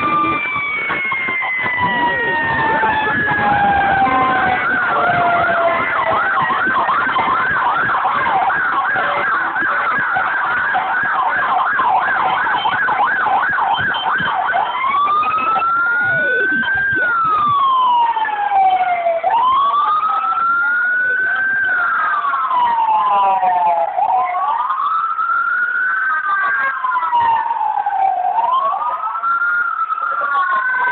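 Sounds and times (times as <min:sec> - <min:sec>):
emergency siren yelping and wailing: 0:00.0 - 0:30.9
passing traffic: 0:00.0 - 0:30.9.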